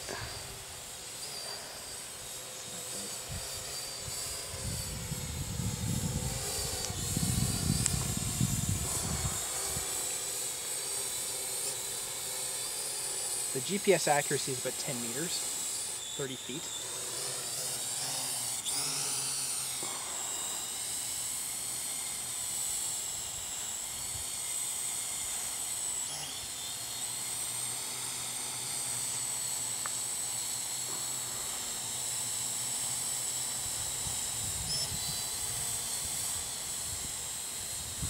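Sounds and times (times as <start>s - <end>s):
drone propellers whining: 0.0s - 38.0s.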